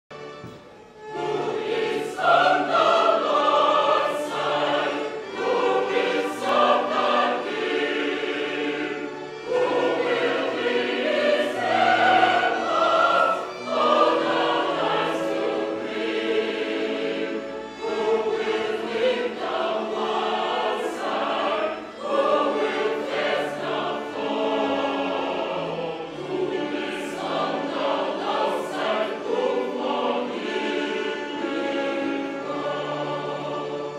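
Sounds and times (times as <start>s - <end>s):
choir singing a hymn: 0.2s - 33.9s.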